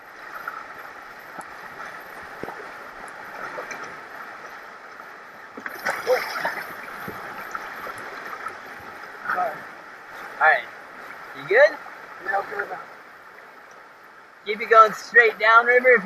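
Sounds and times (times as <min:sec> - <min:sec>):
water splashing: 0:00.0 - 0:13.9.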